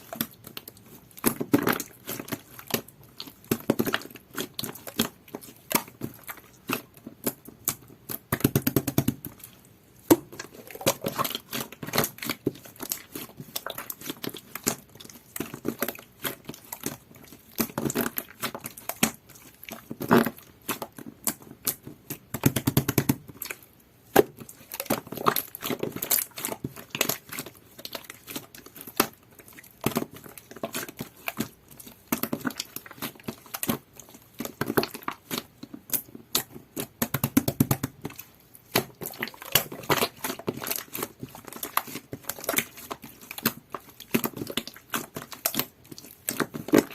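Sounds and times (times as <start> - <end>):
hands squishing slime: 0.0 - 46.9.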